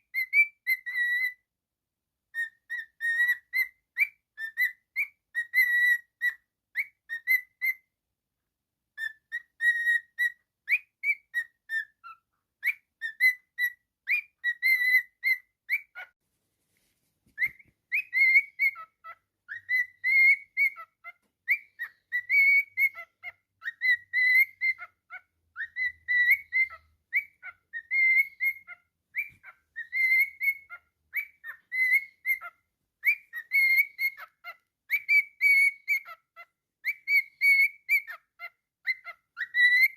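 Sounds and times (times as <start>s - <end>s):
cockatiel whistling: 0.0s - 1.5s, 2.3s - 7.9s, 8.9s - 16.1s, 17.3s - 39.9s.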